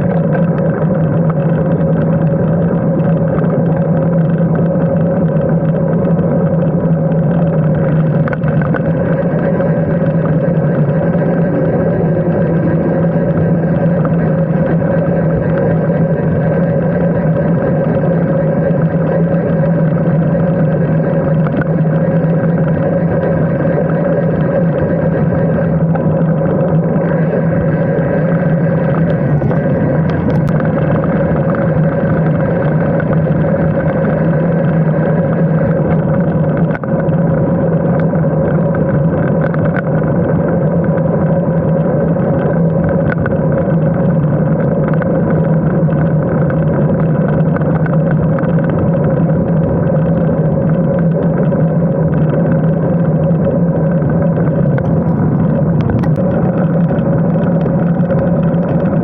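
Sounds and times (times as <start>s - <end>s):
wind and road noise on microphone: 0.0s - 59.0s.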